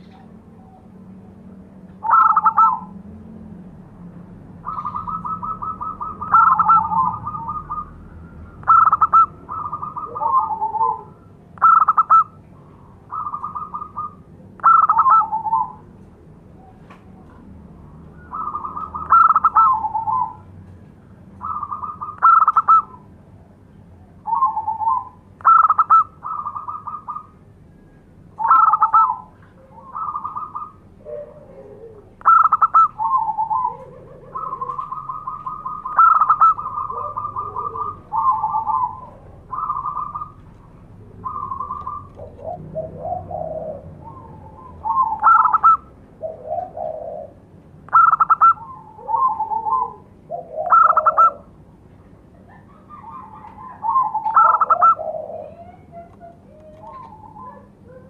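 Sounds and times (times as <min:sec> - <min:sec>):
dove cooing trills: 0:00.0 - 0:03.4, 0:04.4 - 0:58.0.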